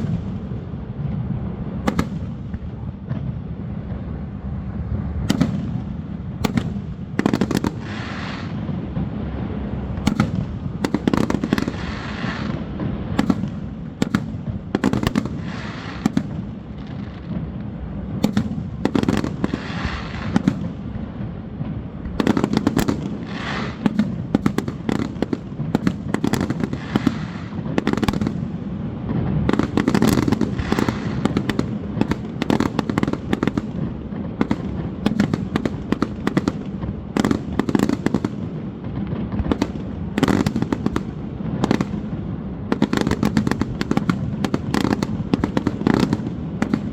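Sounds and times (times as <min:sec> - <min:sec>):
fireworks bursts and crackling: 0:00.0 - 0:46.9.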